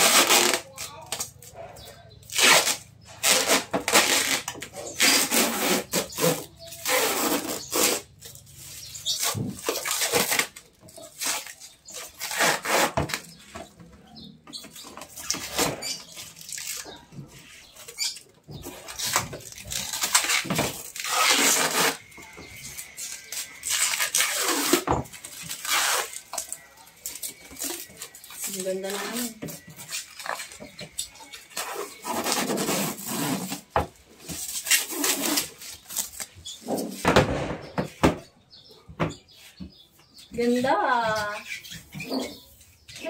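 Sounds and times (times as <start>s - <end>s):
plastic film crinkling: 0.0s - 1.5s, 2.2s - 13.4s, 15.0s - 37.0s.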